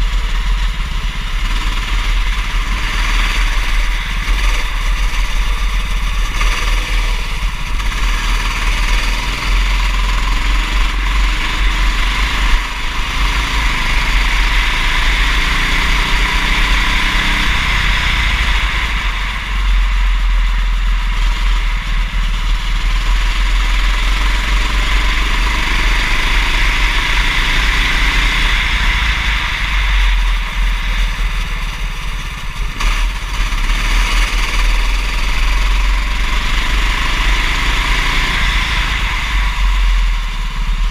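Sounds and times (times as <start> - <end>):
constant deep rumble: 0.0 - 40.9
go-kart engine running: 0.0 - 40.9.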